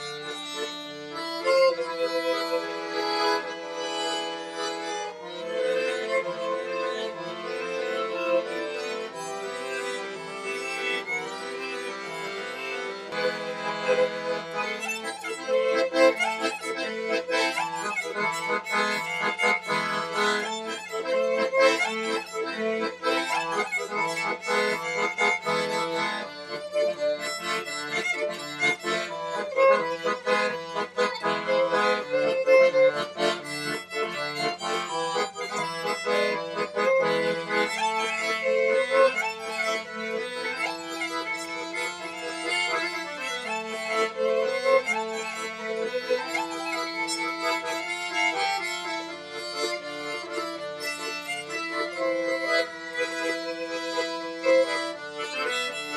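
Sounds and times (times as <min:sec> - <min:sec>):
instrumental background music: 0:00.0 - 0:55.9.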